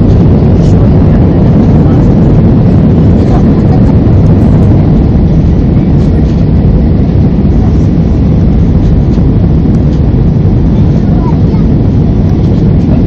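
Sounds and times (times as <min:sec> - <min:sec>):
jet engines in cabin: 0:00.0 - 0:13.0.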